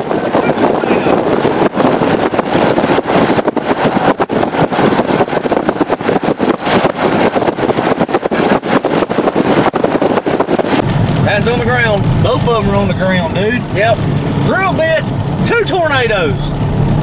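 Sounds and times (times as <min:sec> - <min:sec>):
gusty wind buffeting microphone: 0:00.0 - 0:17.0
vehicle running noise: 0:00.0 - 0:17.0.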